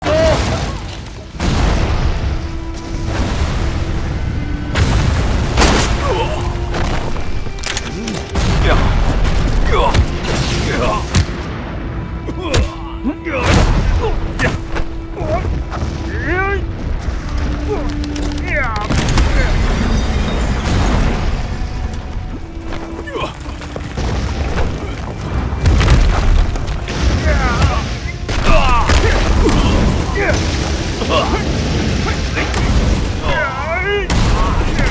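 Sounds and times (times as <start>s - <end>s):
dramatic music: 0.0s - 34.9s.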